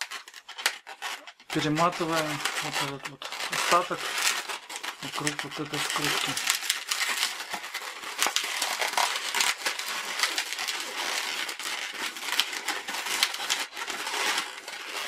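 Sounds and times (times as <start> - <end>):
balloons rubbing and crackling: 0.0 - 15.0.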